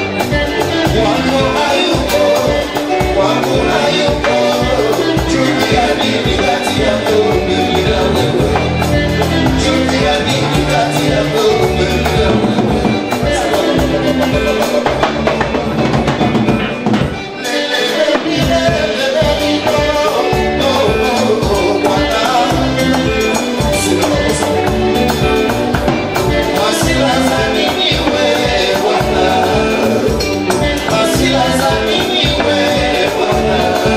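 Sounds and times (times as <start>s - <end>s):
live band music: 0.0s - 33.9s.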